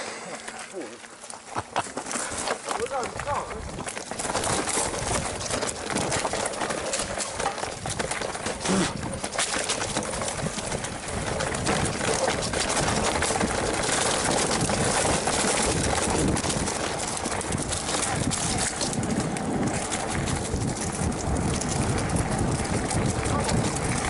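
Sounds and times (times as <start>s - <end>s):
tyres on dirt and stones: 0.0s - 24.0s
bike clattering: 0.3s - 24.0s.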